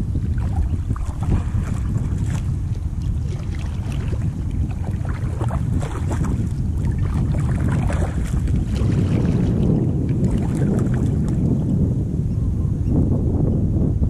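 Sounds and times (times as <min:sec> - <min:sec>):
water lapping and splashing: 0:00.0 - 0:11.8
wind buffeting microphone: 0:00.0 - 0:14.0.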